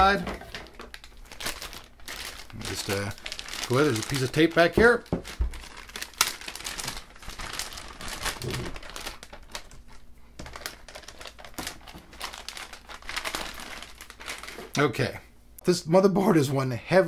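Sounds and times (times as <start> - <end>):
plastic bag crinkling: 0.0 - 14.8.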